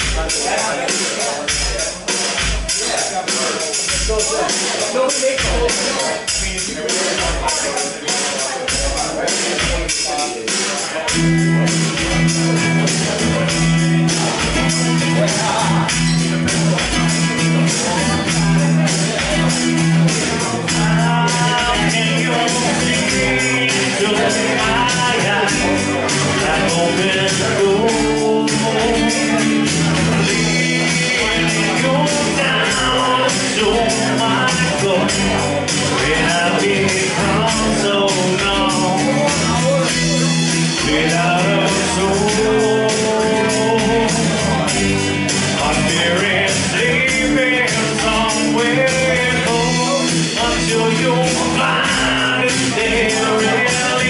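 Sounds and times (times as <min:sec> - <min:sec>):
man singing into microphone: 0:00.0 - 0:54.0
steady beat: 0:00.0 - 0:54.0
strummed acoustic guitar: 0:00.0 - 0:54.0.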